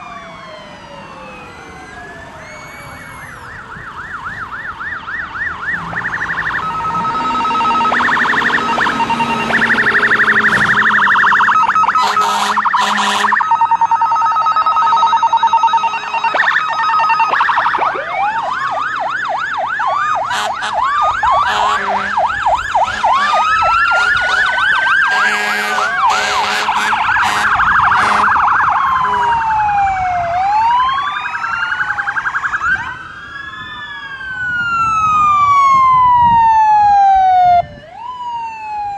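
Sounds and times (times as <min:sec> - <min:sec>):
emergency vehicle sirens: 0:00.0 - 0:38.9.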